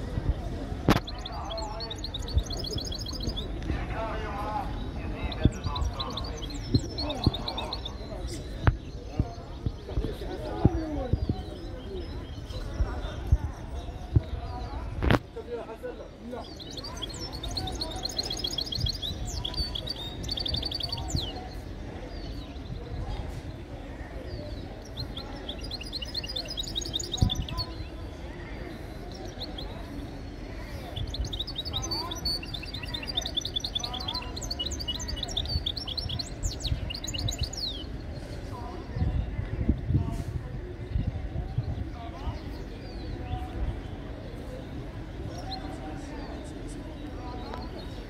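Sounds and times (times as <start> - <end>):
low background noise: 0.0 - 48.0
songbird chirping and trilling: 0.0 - 48.0.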